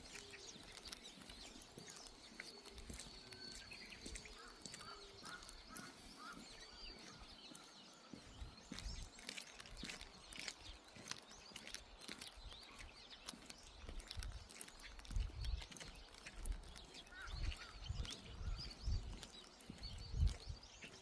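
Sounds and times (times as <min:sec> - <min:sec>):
raindrops dripping: 0:00.0 - 0:06.3, 0:08.7 - 0:21.0
small birds chirping: 0:00.0 - 0:21.0.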